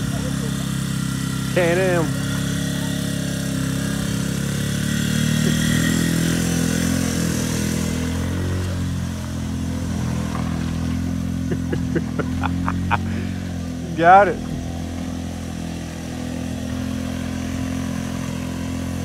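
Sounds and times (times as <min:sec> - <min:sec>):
atv engine running under load: 0:00.0 - 0:19.0
van engine running: 0:00.0 - 0:19.0.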